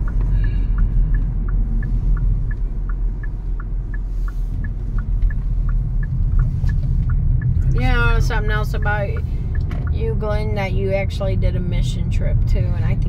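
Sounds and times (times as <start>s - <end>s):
car road and engine rumble: 0.0s - 13.0s
turn signal ticking: 0.0s - 13.0s.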